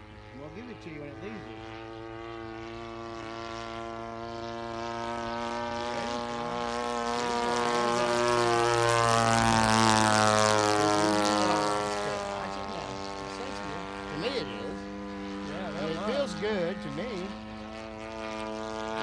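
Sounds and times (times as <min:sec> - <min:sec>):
model airplane engine droning: 0:00.0 - 0:19.0.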